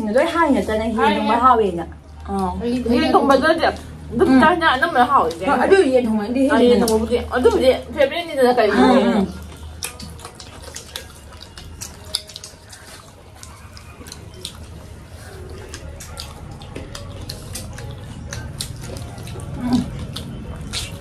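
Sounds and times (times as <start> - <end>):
people chewing and lip-smacking: 0.0 - 21.0.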